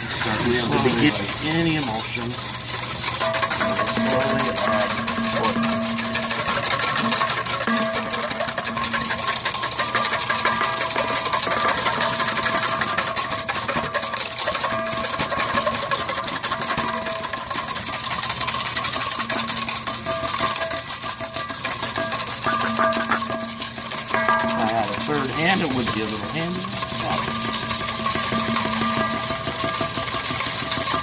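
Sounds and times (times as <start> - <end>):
whisk beating in metal bowl: 0.0 - 31.0.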